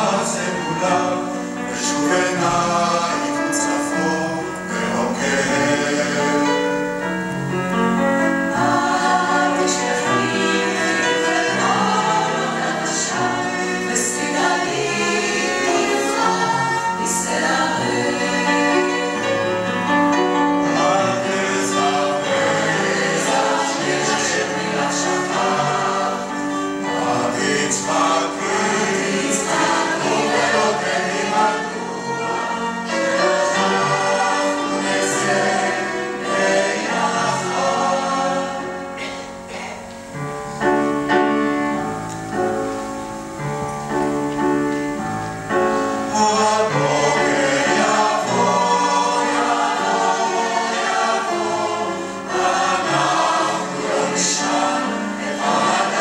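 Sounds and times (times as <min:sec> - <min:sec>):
bowed cello: 0:00.0 - 0:56.0
mixed choir singing: 0:00.0 - 0:56.0.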